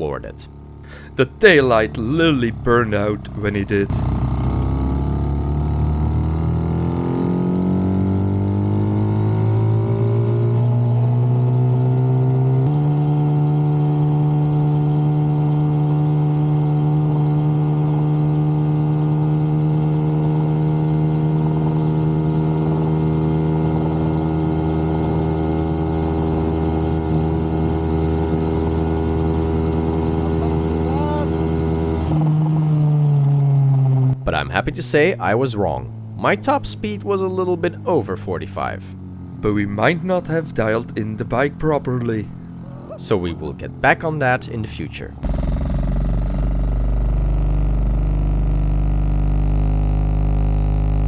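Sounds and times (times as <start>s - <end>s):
small motorcycle engine at full throttle: 0.0s - 34.2s, 35.0s - 51.0s.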